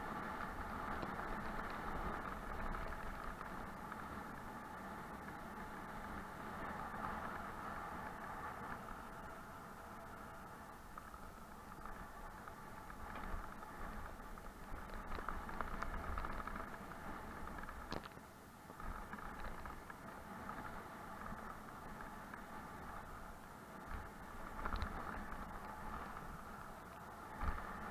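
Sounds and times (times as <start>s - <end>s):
bike rattling: 0.0s - 27.9s
bike tyres rumbling on gravel: 0.0s - 27.9s
wind over camera: 0.0s - 27.9s.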